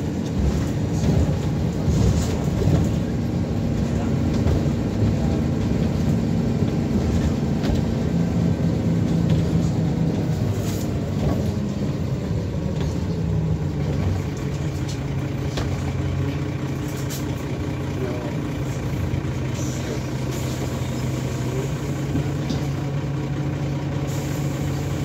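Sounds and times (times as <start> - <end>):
light cabin rattles: 0.0 - 24.0
bus diesel engine running: 0.0 - 25.0.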